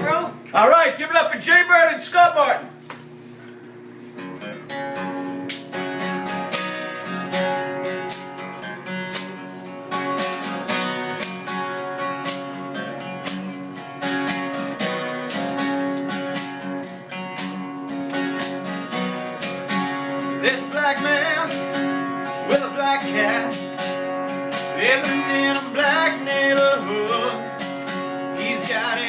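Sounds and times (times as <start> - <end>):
acoustic guitar strumming: 4.1 - 29.0.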